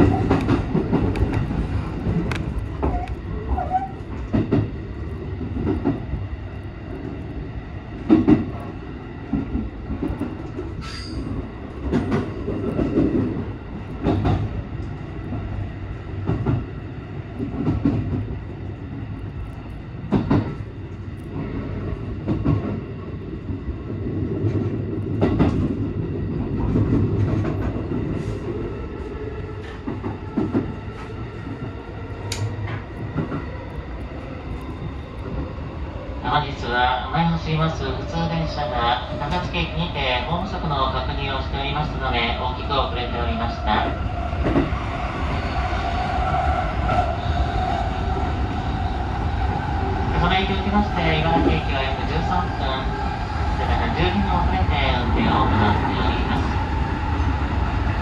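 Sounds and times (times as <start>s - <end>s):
train rumble and hum: 0.0s - 58.0s.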